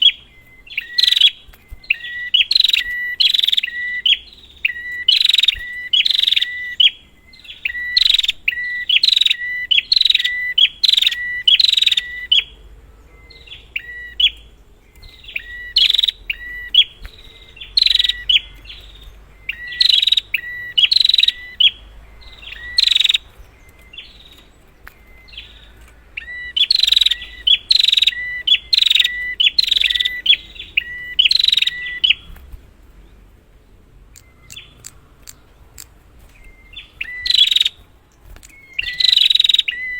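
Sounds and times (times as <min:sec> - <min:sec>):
bird calling sharp notes: 0:00.0 - 0:32.5, 0:34.1 - 0:39.9.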